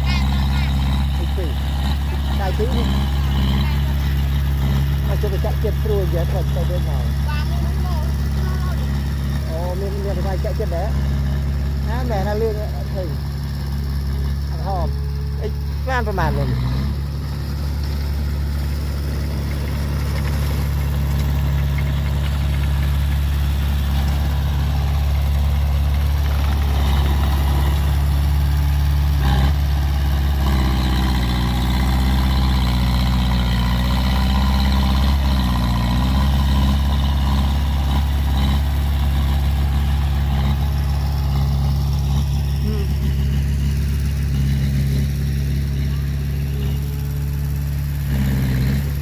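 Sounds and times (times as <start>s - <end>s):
diesel engine humming: 0.0s - 49.0s
second engine note: 0.0s - 49.0s.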